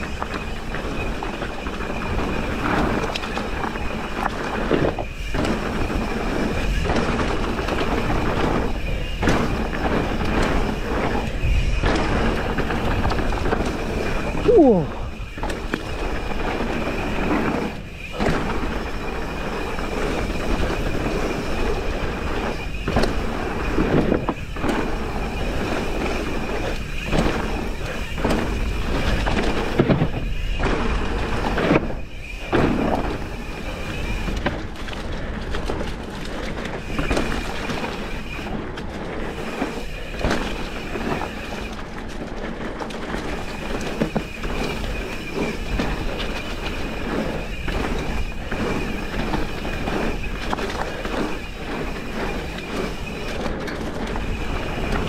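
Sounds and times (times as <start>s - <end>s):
bike rattling and knocking: 0.0s - 55.0s
bike tyres rolling over dirt: 0.0s - 55.0s
wind rumbling on microphone: 0.0s - 55.0s.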